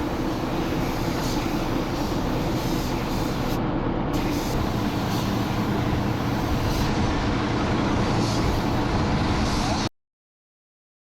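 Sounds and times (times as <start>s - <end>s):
mechanical rumble with hiss: 0.0s - 9.9s.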